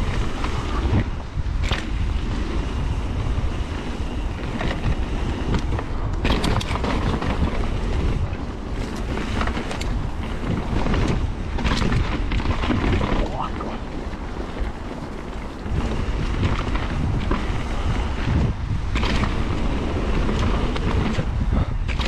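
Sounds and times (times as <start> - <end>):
bike clacking and rattling: 0.0 - 22.0
tyres rumbling on dirt: 0.0 - 22.0
wind buffeting microphone: 0.0 - 22.0.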